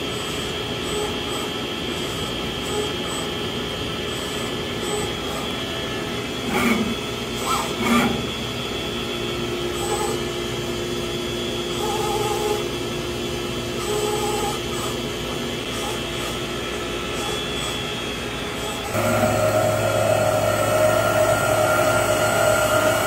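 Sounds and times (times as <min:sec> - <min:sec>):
grinder whine: 0:00.0 - 0:23.0.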